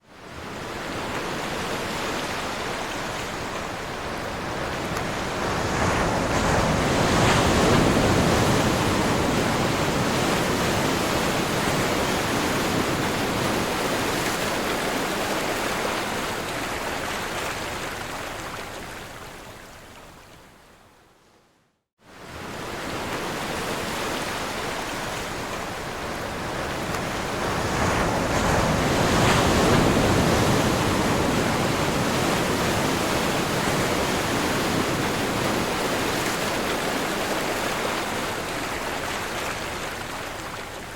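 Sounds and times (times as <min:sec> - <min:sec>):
ocean waves washing on shore: 0:00.0 - 0:20.7, 0:22.0 - 0:40.9.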